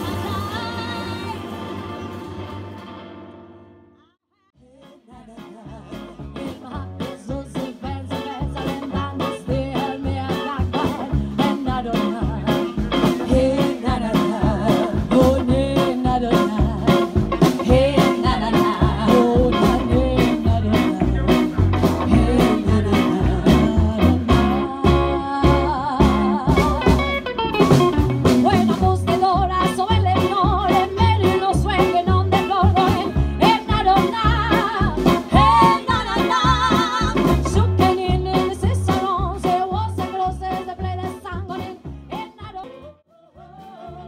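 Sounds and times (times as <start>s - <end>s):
women singing: 4.6s - 21.2s, 22.0s - 27.0s, 28.4s - 44.0s
upright double bass: 5.1s - 44.0s
drum kit beat: 5.4s - 42.8s.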